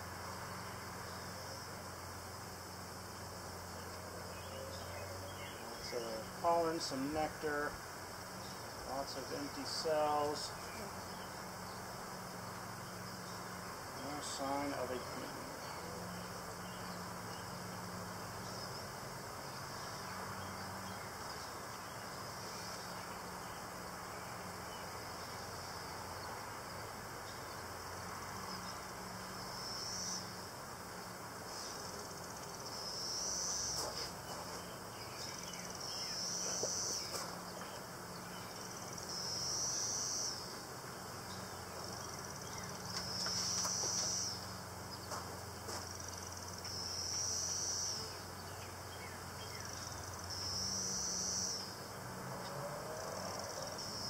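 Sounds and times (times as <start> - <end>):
high buzzing insect call: 0.0 - 54.0
honeybees humming: 0.0 - 54.0.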